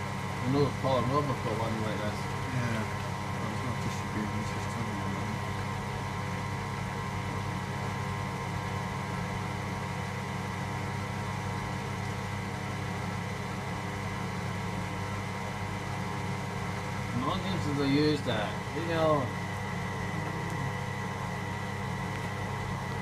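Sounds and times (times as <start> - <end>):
washing machine drain pump humming: 0.0 - 23.0.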